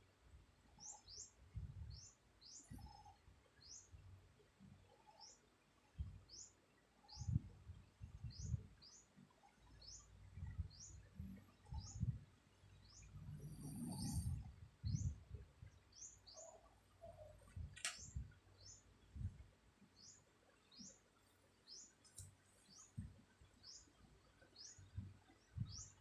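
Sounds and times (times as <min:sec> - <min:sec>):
bird chirping: 0:00.7 - 0:04.0, 0:04.6 - 0:26.0.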